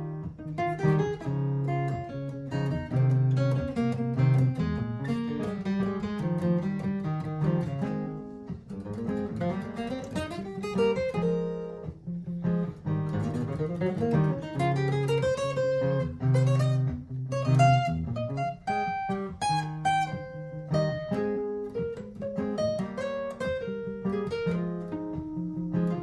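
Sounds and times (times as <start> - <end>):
acoustic guitar plucked melody: 0.0 - 26.0
looped guitar backing: 0.0 - 26.0.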